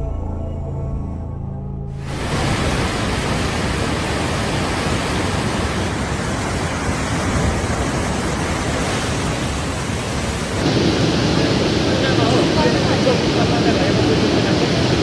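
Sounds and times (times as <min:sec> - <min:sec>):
river rushing in flood: 0:02.0 - 0:15.0.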